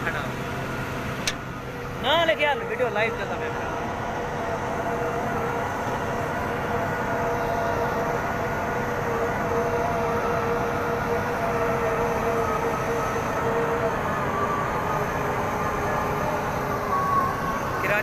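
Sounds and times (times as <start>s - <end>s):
construction machinery engine drone: 0.0s - 18.0s
steady whine: 0.0s - 18.0s.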